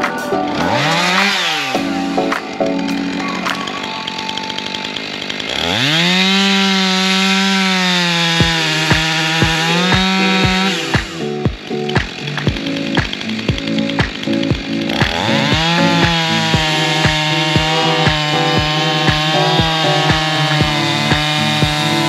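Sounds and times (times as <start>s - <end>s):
chainsaw revving: 0.5s - 1.8s, 4.5s - 22.0s.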